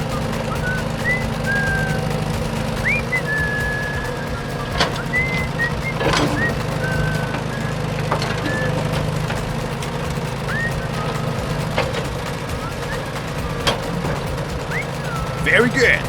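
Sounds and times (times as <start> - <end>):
birds chirping: 0.0 - 16.0
small motor humming: 0.0 - 16.0.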